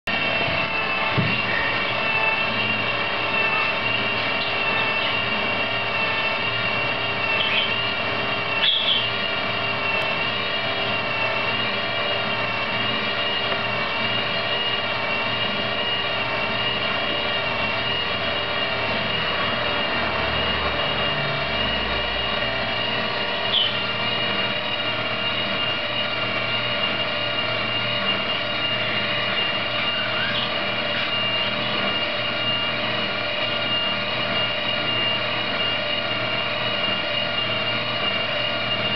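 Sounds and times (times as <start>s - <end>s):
propeller whirring with high whine: 0.0s - 38.9s.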